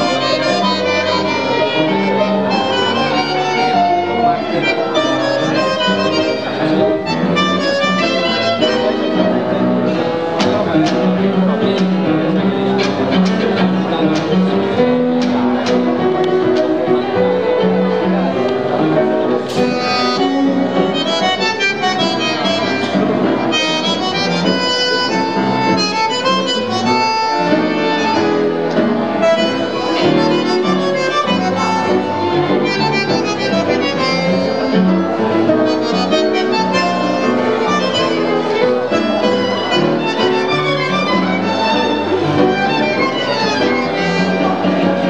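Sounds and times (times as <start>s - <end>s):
piano: 0.0s - 45.0s
reedy bandoneon: 0.0s - 45.0s
tango music: 0.0s - 45.0s
violin: 0.0s - 45.0s.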